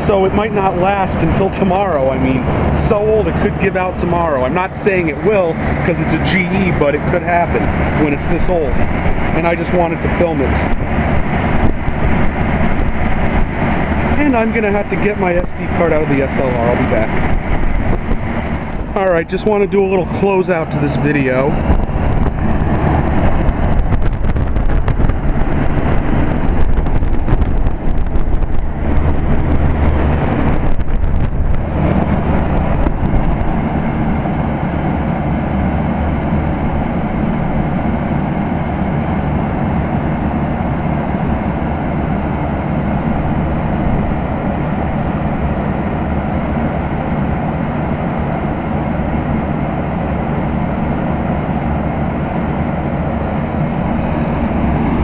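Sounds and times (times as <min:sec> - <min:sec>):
compressor hum: 0:00.0 - 0:55.0
condenser fan whoosh: 0:00.0 - 0:55.0.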